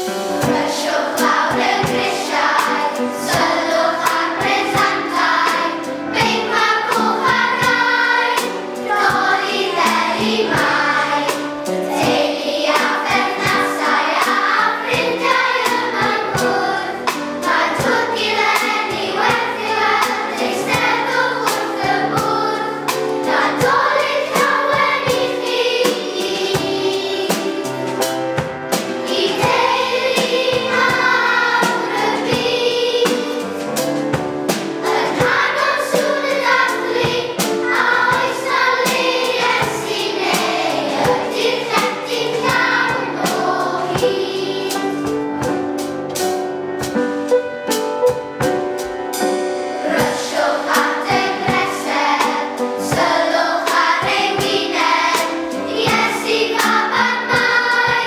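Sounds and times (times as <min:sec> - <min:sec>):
children's choir singing: 0:00.0 - 0:46.5, 0:49.1 - 0:58.0
instrumental accompaniment with beat: 0:00.0 - 0:58.0.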